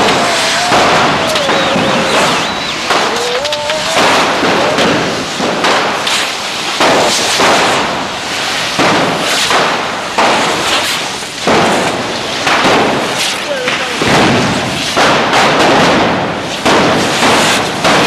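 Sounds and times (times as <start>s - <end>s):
firework bangs and pops: 0.0s - 18.0s
fireworks hissing rush: 0.0s - 18.0s.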